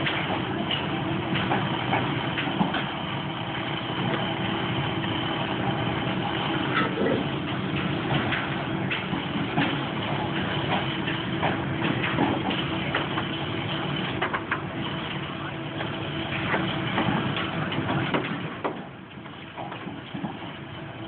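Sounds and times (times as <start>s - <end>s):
machinery running: 0.0s - 21.0s.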